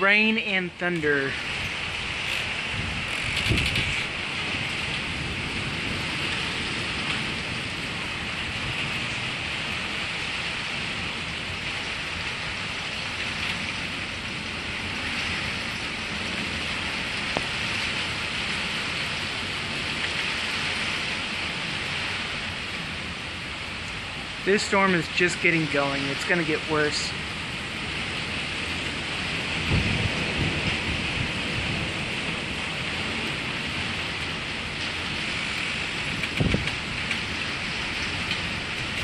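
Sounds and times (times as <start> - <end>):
heavy rain on metal covers: 0.0 - 39.0.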